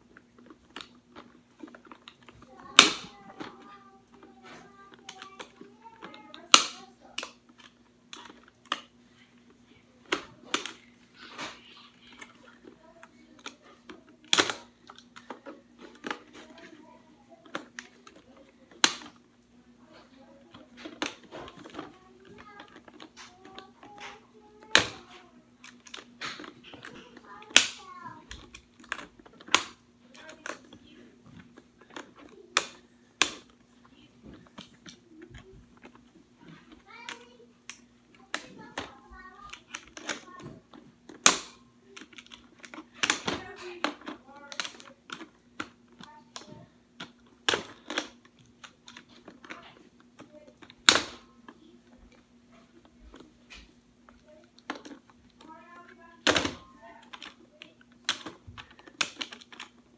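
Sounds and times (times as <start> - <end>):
sharp plastic clicks: 0.4 - 8.9, 10.0 - 19.3, 20.5 - 52.2, 52.9 - 59.8.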